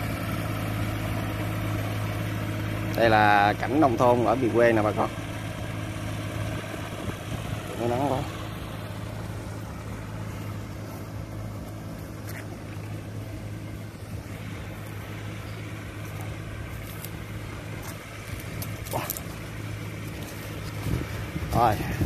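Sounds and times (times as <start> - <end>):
diesel engines droning: 0.0 - 22.0.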